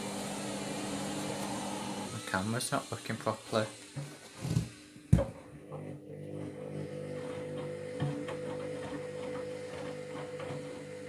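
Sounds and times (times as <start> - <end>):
washing machine motor whine: 0.0 - 11.0.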